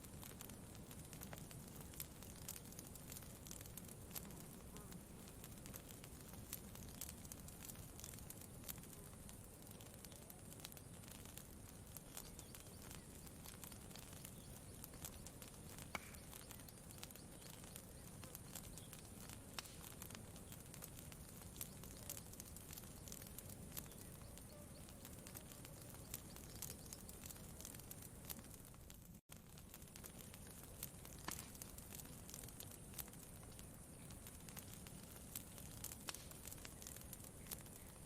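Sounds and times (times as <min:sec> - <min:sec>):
campfire crackling: 0:00.0 - 0:38.0.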